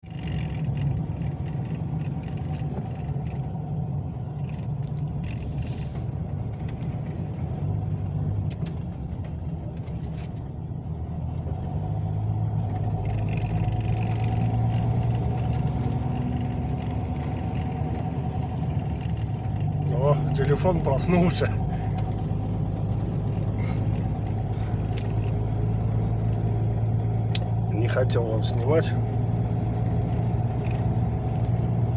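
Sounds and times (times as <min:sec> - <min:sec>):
road noise: 0:00.0 - 0:31.9
truck engine drone: 0:00.0 - 0:31.9.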